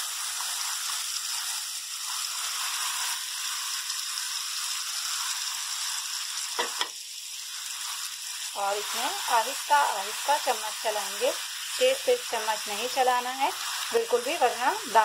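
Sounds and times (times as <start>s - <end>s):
batter sizzling in hot fat: 0.0s - 15.0s.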